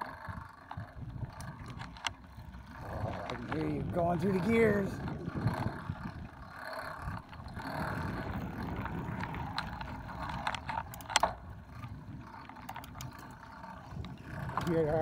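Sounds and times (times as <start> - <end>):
bike clicks and rattles: 0.0 - 15.0
tyres rumbling on gravel: 0.0 - 15.0.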